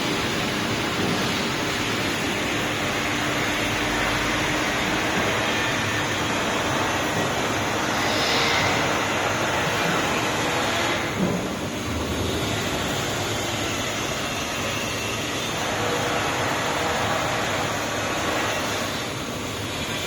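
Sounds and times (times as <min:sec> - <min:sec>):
laser cutting machine hiss and hum: 0:00.0 - 0:20.0.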